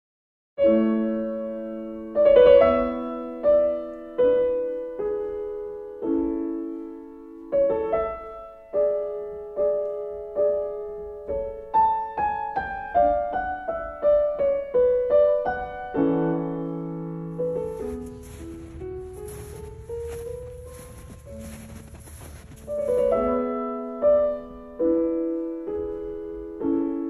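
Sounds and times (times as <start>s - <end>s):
gentle solo piano: 0.6s - 21.4s, 22.3s - 27.0s.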